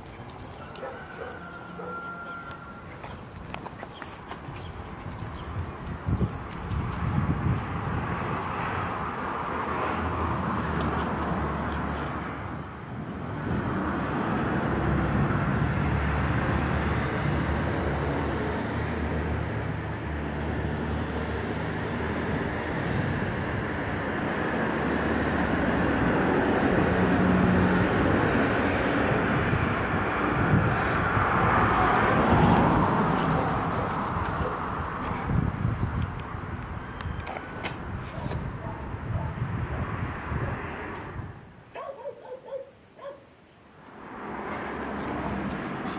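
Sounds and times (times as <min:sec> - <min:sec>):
insect chirping: 0:00.0 - 0:23.0, 0:27.8 - 0:45.9.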